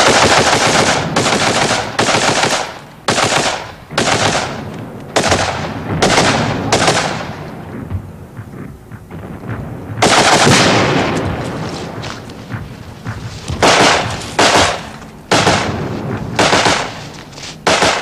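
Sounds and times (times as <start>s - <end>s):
machine gun firing bursts: 0.0s - 7.4s, 9.2s - 18.0s.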